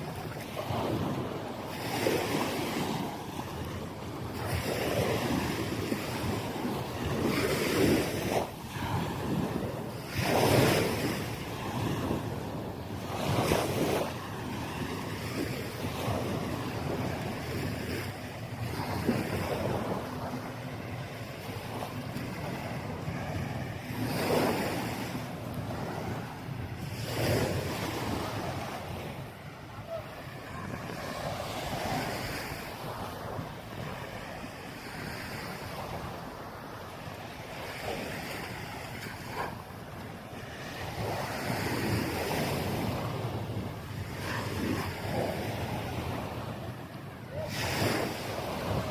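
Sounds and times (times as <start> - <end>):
small waves washing on sand: 0.0 - 48.9
wind rumbling on microphone: 0.0 - 48.9.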